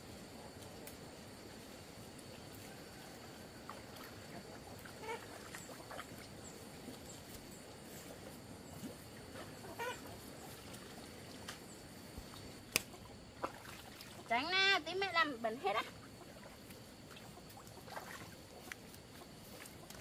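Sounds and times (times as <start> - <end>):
ducks calling faintly: 2.5 - 14.7, 15.7 - 20.0.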